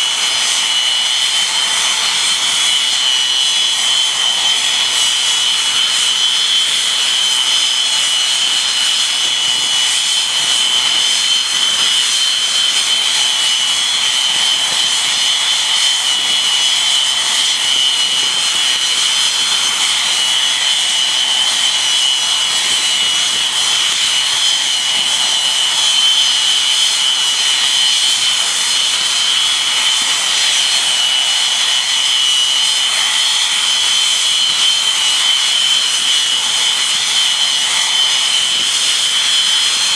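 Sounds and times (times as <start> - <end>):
jet engines high-pitched whine: 0.0 - 39.9
rushing jet noise: 0.0 - 39.9.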